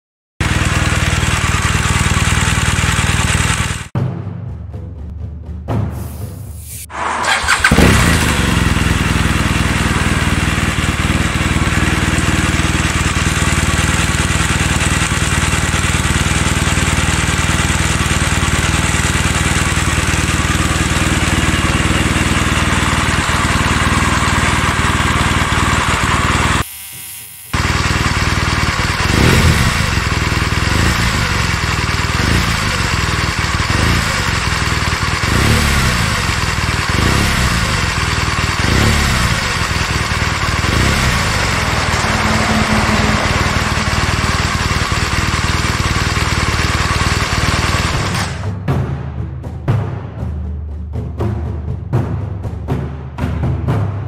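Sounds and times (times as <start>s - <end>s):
engine ticking: 0.4s - 3.9s, 6.9s - 26.6s, 27.6s - 48.5s
motorcycle engine idling: 0.4s - 3.9s, 7.2s - 26.7s, 27.5s - 48.5s.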